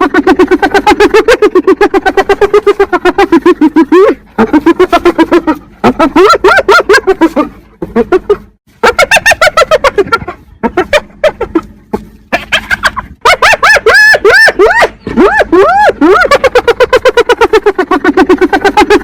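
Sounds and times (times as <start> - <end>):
hyena giggling: 0.0 - 19.0.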